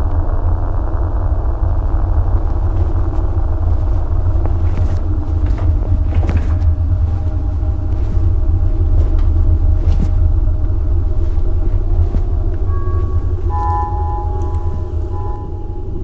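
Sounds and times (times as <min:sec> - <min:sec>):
low rumbling drone: 0:00.0 - 0:16.0.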